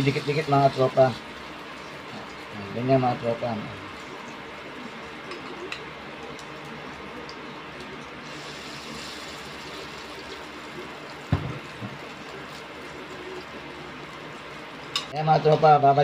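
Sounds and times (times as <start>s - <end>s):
patties sizzling in oil: 0.0s - 15.8s.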